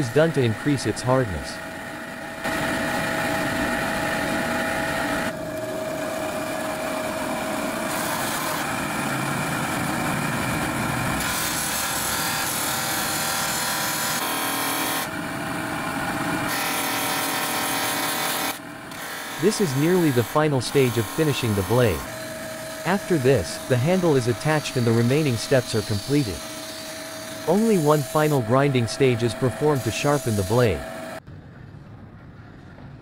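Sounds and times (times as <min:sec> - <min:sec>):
blade on grinding wheel: 0:02.4 - 0:15.1, 0:16.4 - 0:31.2.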